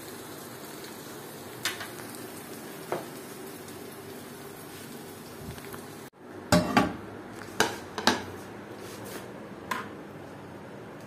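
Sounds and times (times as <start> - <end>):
frying sizzle: 0.0 - 10.3.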